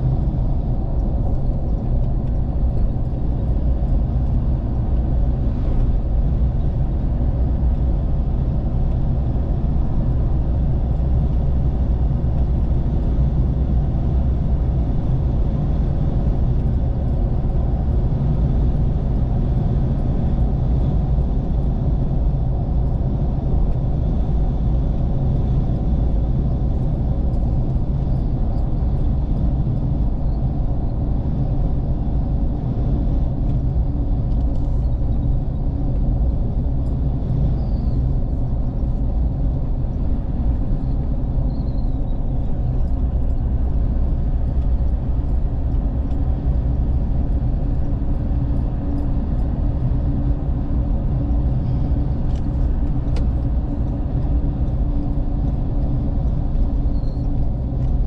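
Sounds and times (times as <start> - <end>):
vehicle driving on road: 0.0 - 58.0.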